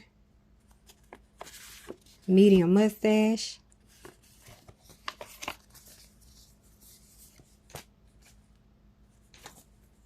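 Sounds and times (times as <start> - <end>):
faint rustling and handling: 0.6 - 2.8, 3.8 - 10.0.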